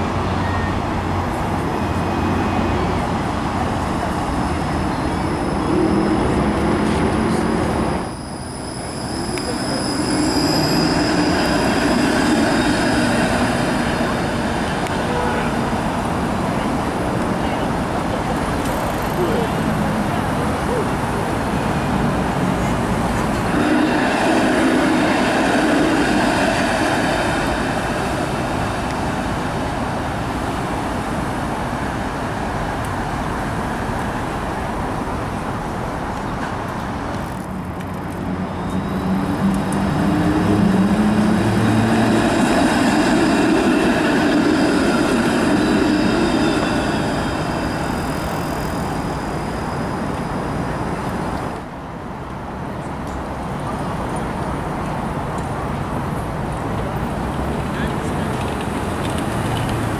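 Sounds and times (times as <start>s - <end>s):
passing road traffic: 0.0s - 59.9s
streetcars running on track: 0.0s - 59.9s.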